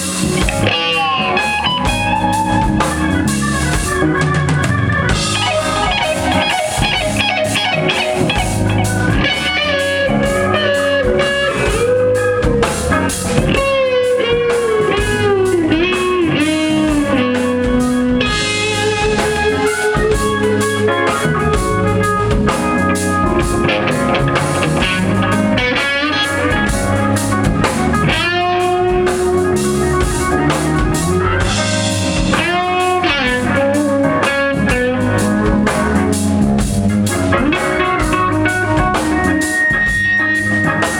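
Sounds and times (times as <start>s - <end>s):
bass guitar: 0.0s - 40.9s
drums: 0.0s - 40.9s
electric guitar solo: 0.0s - 40.9s.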